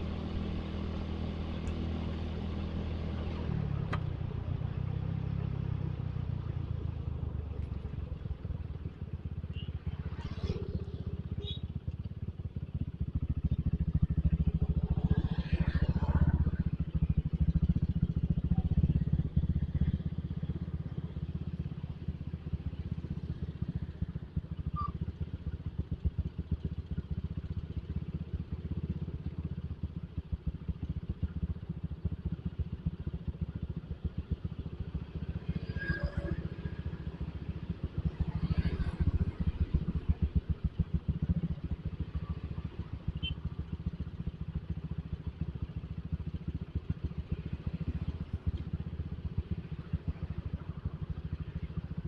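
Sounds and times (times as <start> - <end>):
road noise: 0.0 - 26.0, 32.2 - 52.0
motorcycle engine rumble: 0.0 - 52.0.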